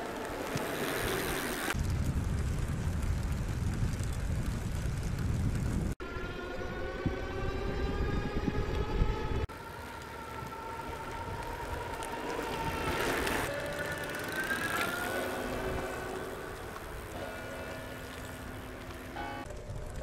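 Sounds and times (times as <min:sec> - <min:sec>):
electric bike motor whining: 0:00.0 - 0:05.8, 0:07.4 - 0:20.0
road rumble: 0:00.0 - 0:20.0
wind: 0:00.0 - 0:20.0.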